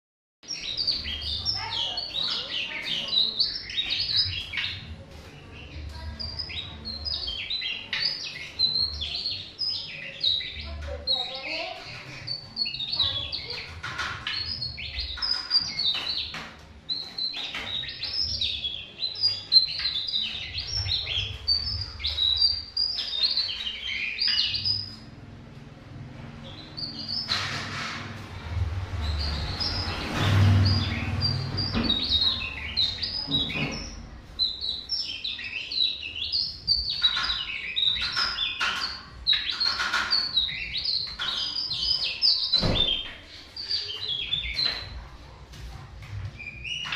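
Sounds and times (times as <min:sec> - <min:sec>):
bird singing high chattering notes: 0:00.4 - 0:25.2, 0:26.4 - 0:27.4, 0:28.9 - 0:44.9.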